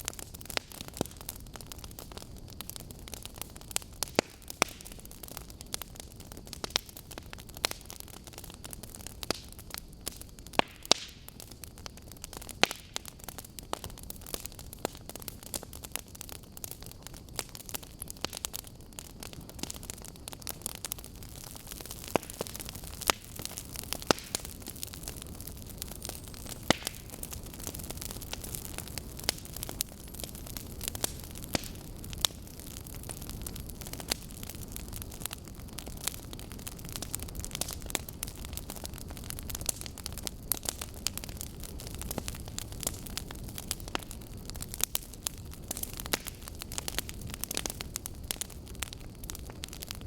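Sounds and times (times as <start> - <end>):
burning logs crackling: 0.0 - 50.0
fire hissing: 0.0 - 50.0.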